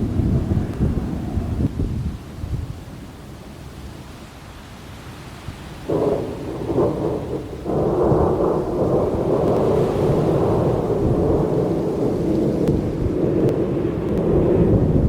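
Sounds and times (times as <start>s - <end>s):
thunder rumbling: 0.0s - 4.0s, 5.8s - 15.0s
rain falling: 0.0s - 15.0s.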